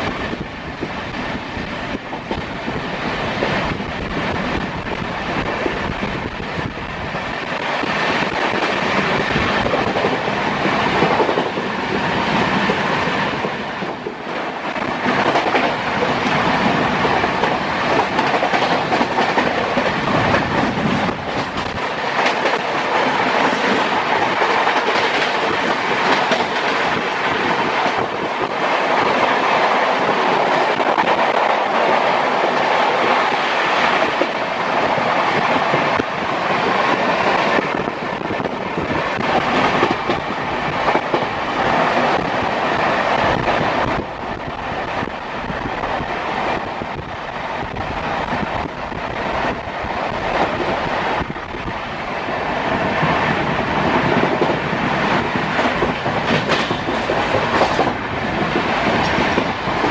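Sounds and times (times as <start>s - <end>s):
passing freight train clatter: 0.0s - 59.9s
train wheels rumbling and clattering: 0.0s - 59.9s.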